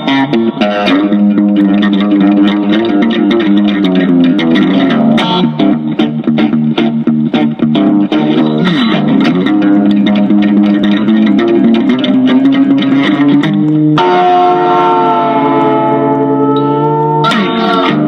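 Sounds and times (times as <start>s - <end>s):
guitar and bass music: 0.0s - 18.0s.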